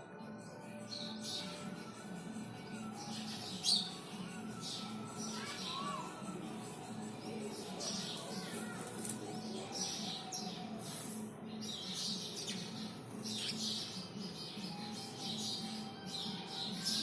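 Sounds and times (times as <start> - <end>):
birds chirping: 3.0 - 17.0.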